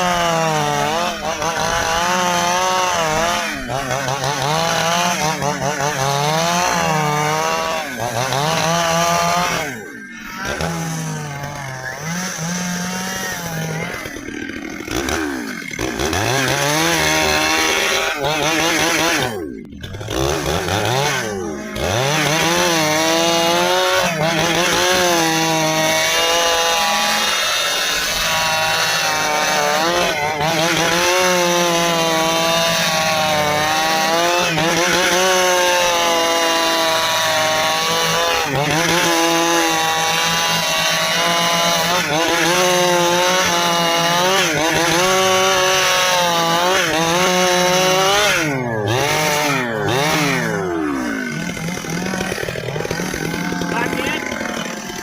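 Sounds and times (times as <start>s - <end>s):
chainsaw cutting hardwood: 0.0s - 55.0s.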